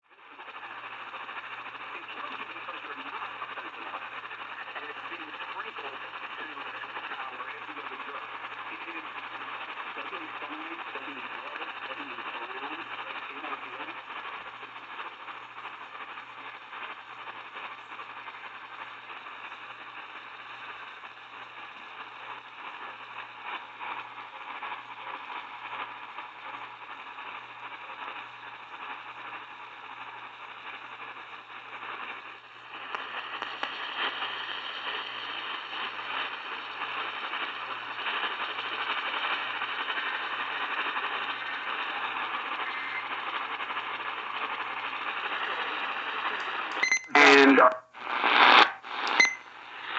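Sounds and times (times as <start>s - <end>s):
radio static hiss with crackles: 0.0s - 49.9s.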